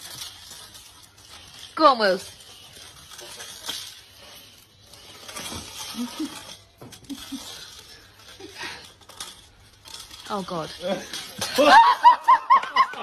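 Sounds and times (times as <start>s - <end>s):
plastic hoop scraping on stone: 0.0s - 11.6s.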